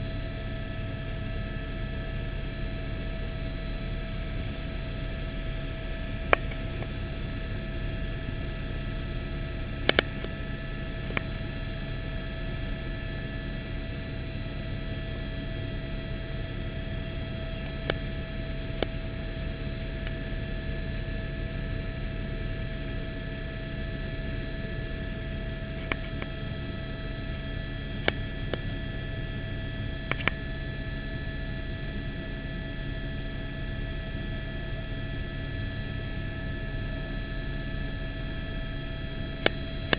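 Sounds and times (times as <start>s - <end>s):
helicopter rotor and engine rumble: 0.0s - 39.9s.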